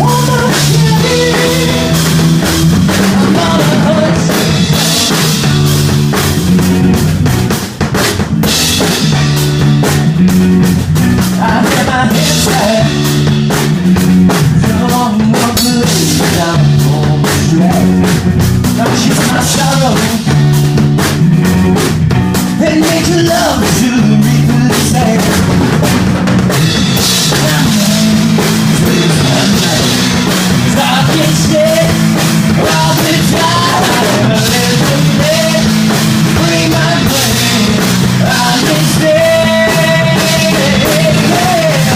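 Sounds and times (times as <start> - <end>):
drum kit beat: 0.0 - 41.9
repeating bass line: 0.0 - 41.9.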